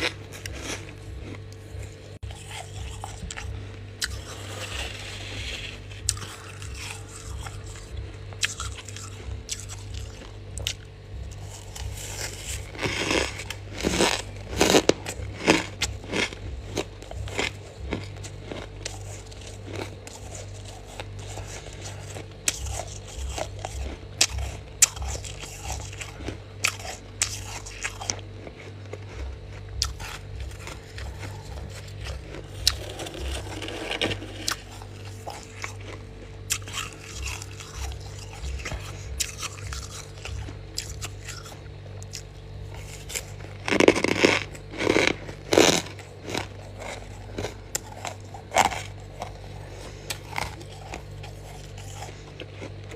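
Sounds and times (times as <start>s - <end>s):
faint hum: 0.0s - 52.9s
frost crunching when bitten: 0.0s - 52.9s.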